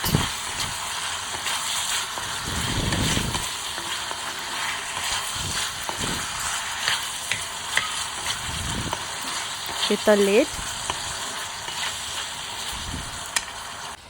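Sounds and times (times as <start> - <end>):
potatoes sizzling in oil: 0.0 - 14.0.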